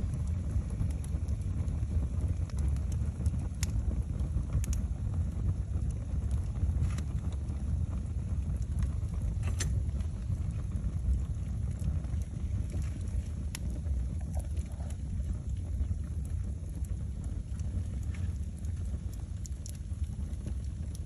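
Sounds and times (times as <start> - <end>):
fire crackles and pops: 0.0 - 21.0
low rumble of flame: 0.0 - 21.0.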